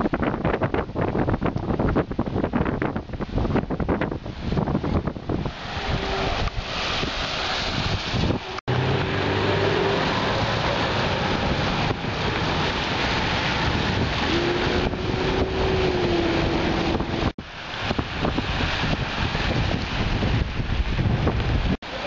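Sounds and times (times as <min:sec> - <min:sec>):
strong wind buffeting microphone: 0:00.0 - 0:21.9.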